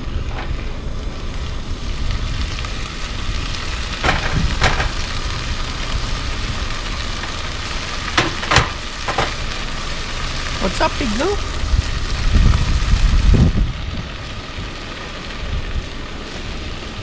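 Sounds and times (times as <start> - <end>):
food sizzling in a pot: 0.0 - 17.0
gas stove low rumble: 0.0 - 17.0.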